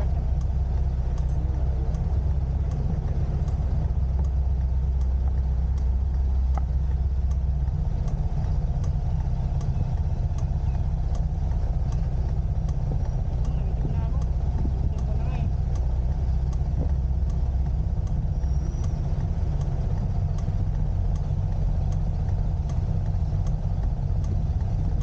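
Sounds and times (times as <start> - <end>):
faint ticking: 0.0 - 25.0
scooter engine idling: 0.0 - 25.0.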